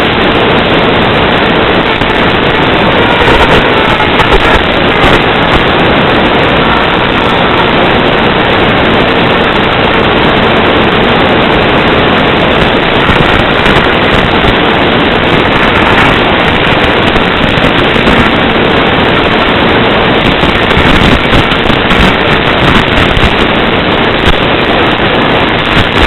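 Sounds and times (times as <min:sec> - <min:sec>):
crackling radio hiss: 0:00.0 - 0:26.0.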